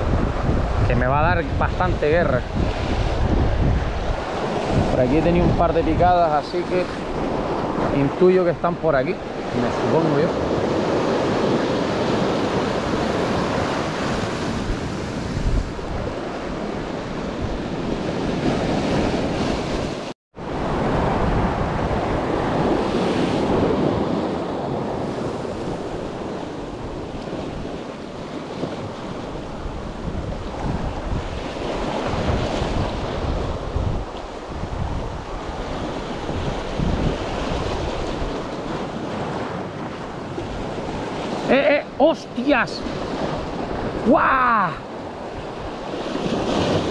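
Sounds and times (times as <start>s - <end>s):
waves breaking on rocks: 0.0s - 20.1s, 20.7s - 46.9s
wind buffeting microphone: 0.0s - 46.9s.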